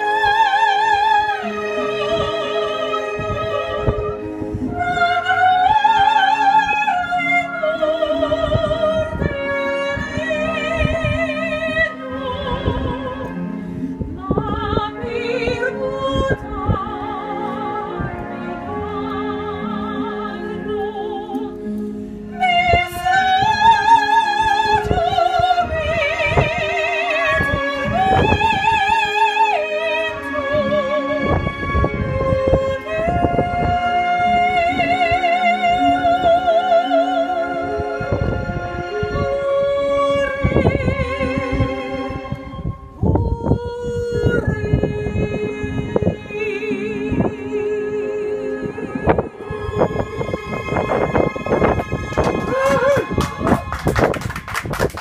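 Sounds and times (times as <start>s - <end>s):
woman singing operatically: 0.0s - 53.8s
instrumental accompaniment: 0.0s - 55.0s.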